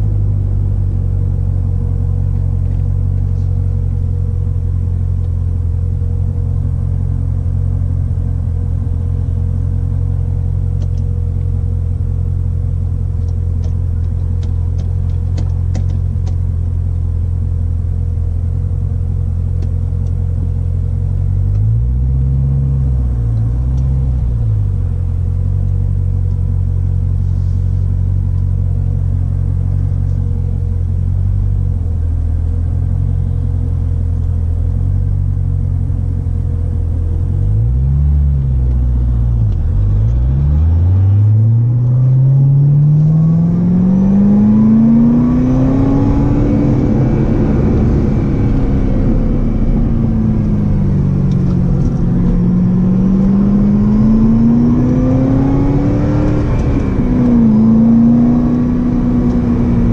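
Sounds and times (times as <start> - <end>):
car engine low rumble in cabin: 0.0 - 59.9.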